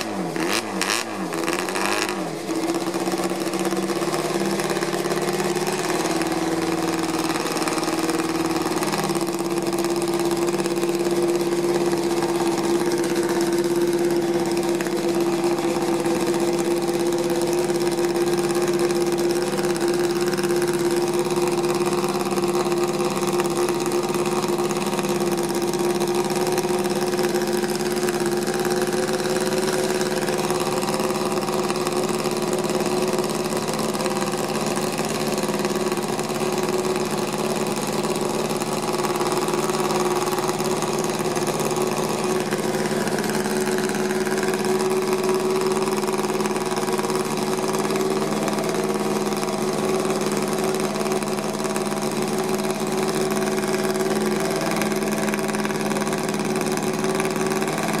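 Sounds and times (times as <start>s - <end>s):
racing engine idling: 0.0s - 58.0s.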